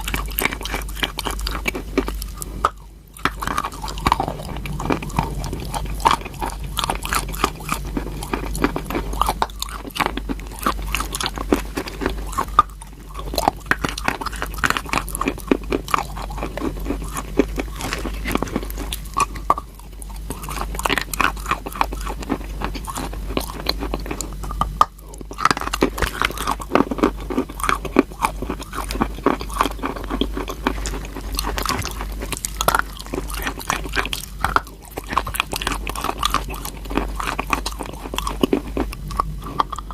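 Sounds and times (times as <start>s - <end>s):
chalk being bitten and chewed: 0.0s - 39.9s.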